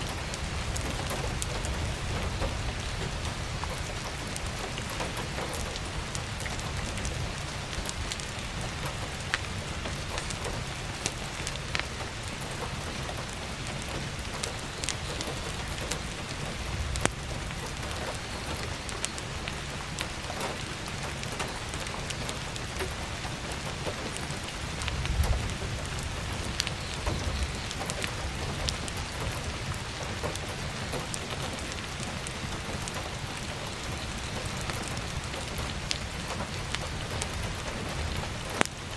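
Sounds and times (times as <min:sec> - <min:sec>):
firewood crackling and popping: 0:00.0 - 0:38.9
heavy rain: 0:00.0 - 0:38.9.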